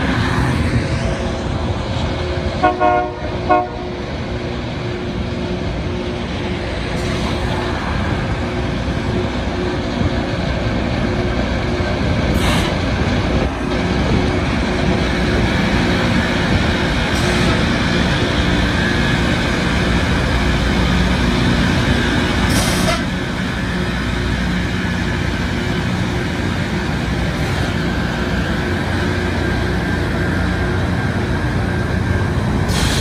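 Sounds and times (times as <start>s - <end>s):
diesel engines running: 0.0s - 33.0s.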